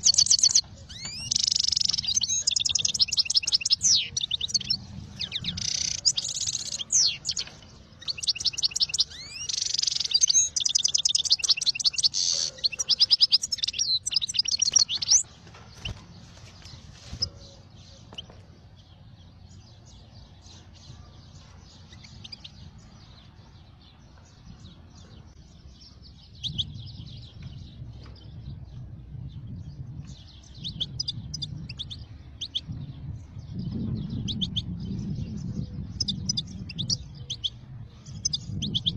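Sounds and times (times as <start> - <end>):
small birds chirping trills: 0.0 - 38.9.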